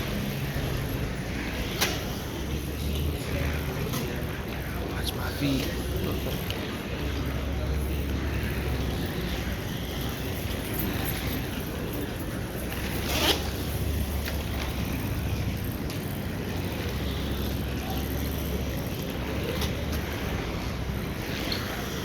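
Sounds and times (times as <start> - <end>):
roller skate wheels rumbling: 0.0 - 22.0.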